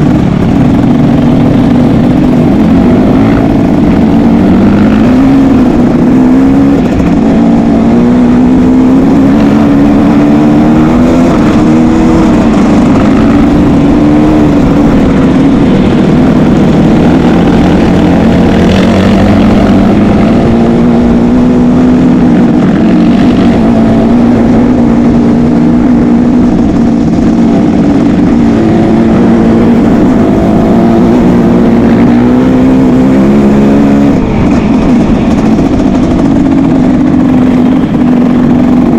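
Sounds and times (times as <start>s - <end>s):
motocross engines revving: 0.0s - 38.9s.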